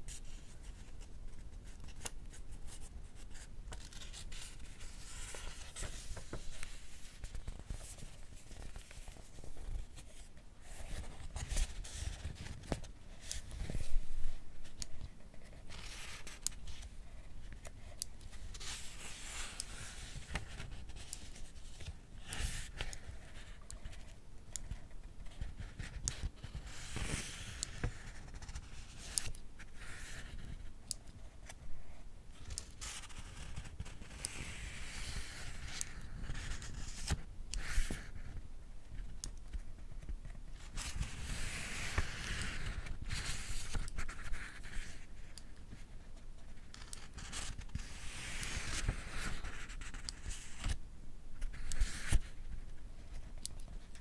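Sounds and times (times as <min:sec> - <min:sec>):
book pages turning: 0:00.1 - 0:30.6, 0:32.4 - 0:38.3, 0:39.1 - 0:45.8, 0:46.5 - 0:50.8.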